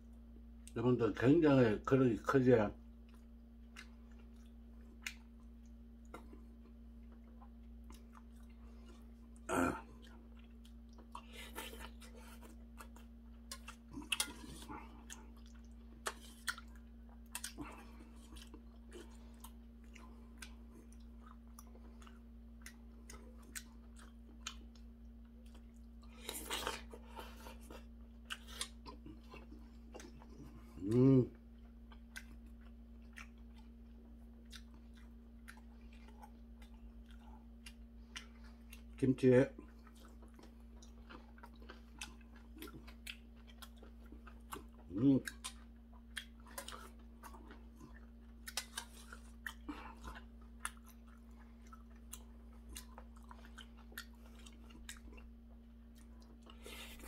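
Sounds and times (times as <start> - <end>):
chewing: 3.0 - 57.0.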